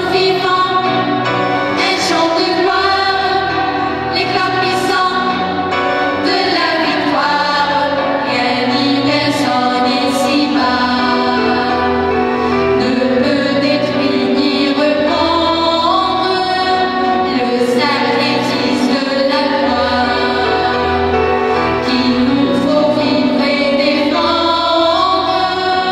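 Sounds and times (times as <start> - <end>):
choir singing: 0.0 - 25.9.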